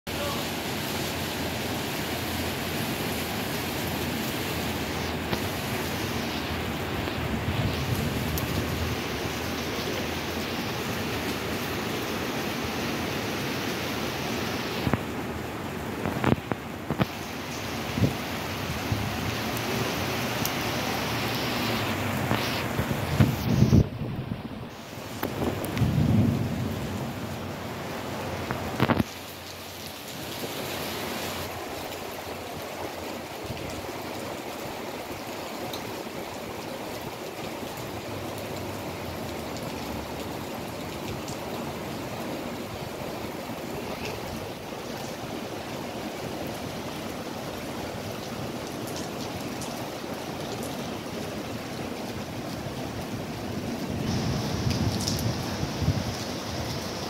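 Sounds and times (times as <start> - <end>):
heavy rain: 0.1 - 57.0.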